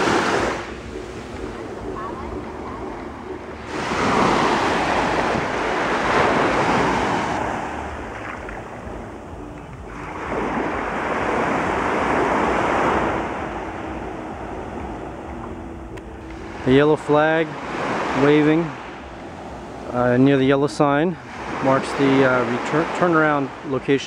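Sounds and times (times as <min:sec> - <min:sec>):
small waves washing up a beach: 0:00.0 - 0:15.5, 0:16.2 - 0:24.0.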